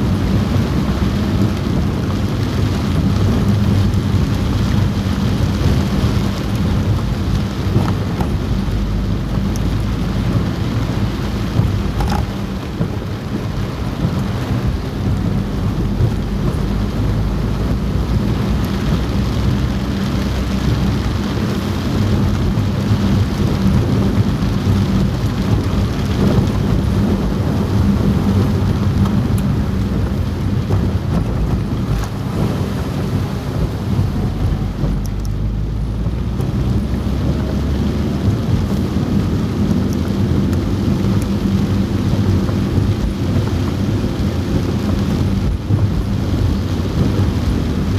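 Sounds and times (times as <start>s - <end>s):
heavy rain drumming on car roof: 0.0s - 47.9s
low rumble of moving car: 0.0s - 47.9s.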